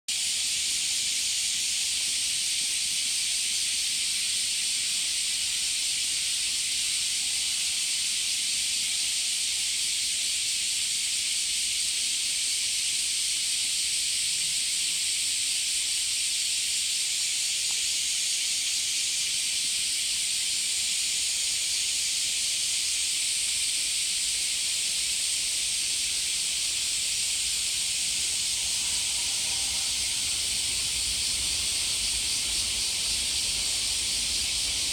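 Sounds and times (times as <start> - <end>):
cicadas shrilling: 0.1 - 34.9.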